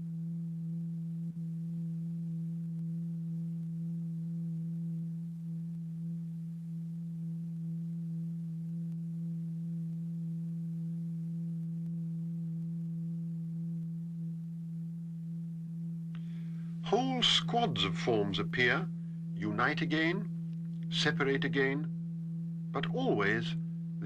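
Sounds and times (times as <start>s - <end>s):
steady low electronic tone: 0.0s - 24.0s.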